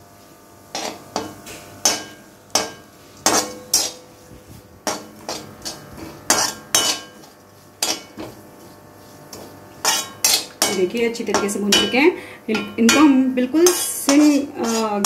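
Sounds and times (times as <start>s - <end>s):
metal spatula scraping metal pan: 0.7s - 4.1s, 4.9s - 15.0s.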